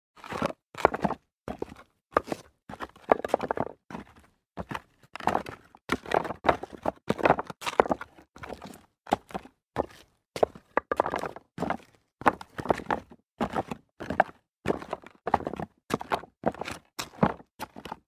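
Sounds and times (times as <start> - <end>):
footsteps crunching on loose rock: 0.2 - 18.0.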